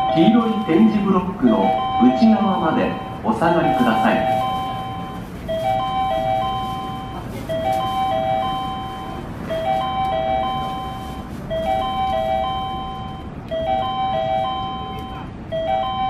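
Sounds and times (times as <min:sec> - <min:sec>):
electronic train approach chime: 0:00.0 - 0:16.0
train drawing in: 0:00.0 - 0:16.0.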